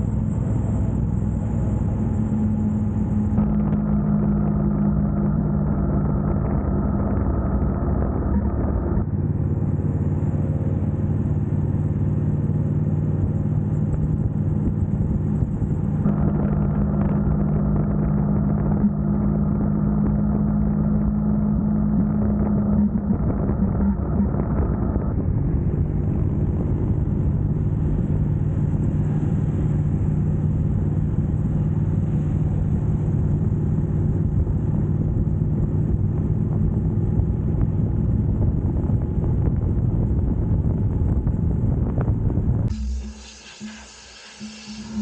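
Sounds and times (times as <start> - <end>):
motorcycle engine cruising: 0.0 - 43.0
road and wind noise: 0.0 - 43.2.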